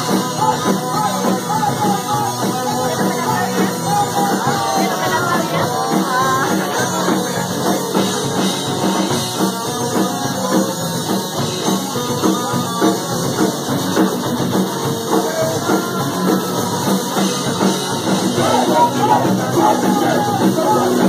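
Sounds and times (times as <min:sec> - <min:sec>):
punk band playing live: 0:00.0 - 0:21.0.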